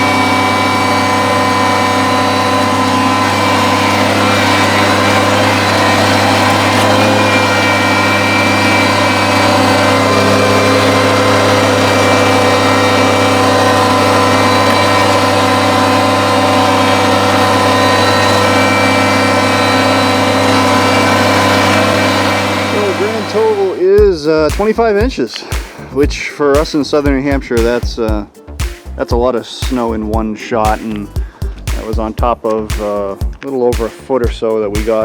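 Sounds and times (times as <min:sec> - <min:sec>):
tractor diesel engine running: 0:00.0 - 0:28.3.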